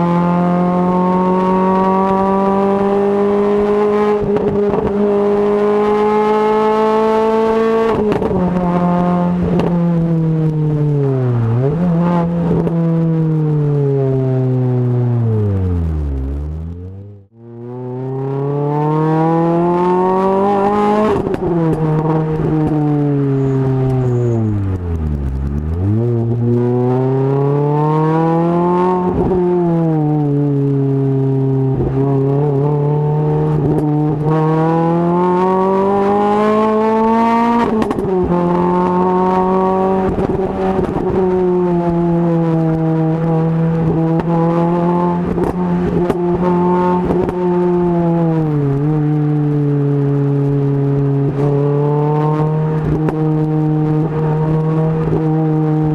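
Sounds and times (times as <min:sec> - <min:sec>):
car engine revving hard: 0:00.0 - 0:55.9.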